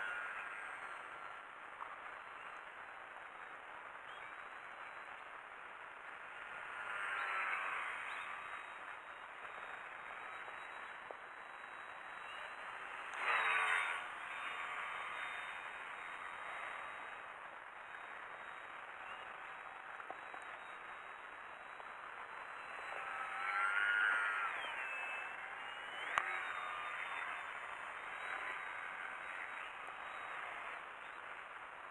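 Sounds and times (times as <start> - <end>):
model plane motor buzzing whine: 0.0 - 3.4, 4.1 - 31.9.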